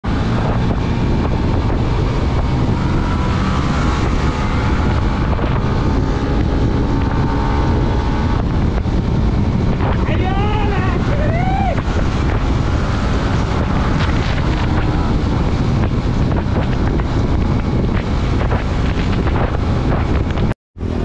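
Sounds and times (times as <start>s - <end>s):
motorcycle engine: 0.0s - 21.0s
road noise: 0.0s - 21.0s
wind rushing over microphone: 0.0s - 21.0s.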